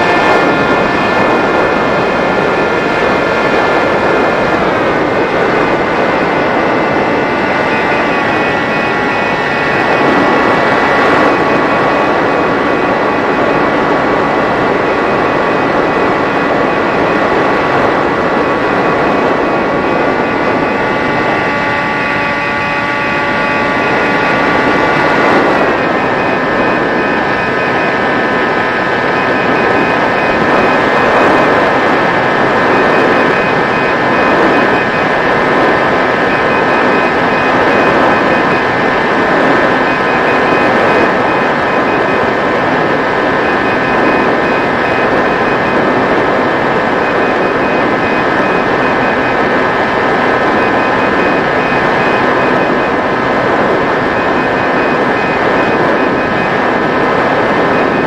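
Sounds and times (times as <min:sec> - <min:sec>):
electric motor and propeller whining: 0:00.0 - 0:58.0
rush of air noise: 0:00.0 - 0:58.0.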